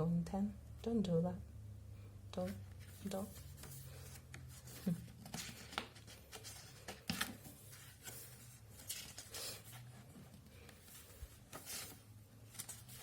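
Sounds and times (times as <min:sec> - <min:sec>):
photobook pages rustling: 0:02.5 - 0:13.0.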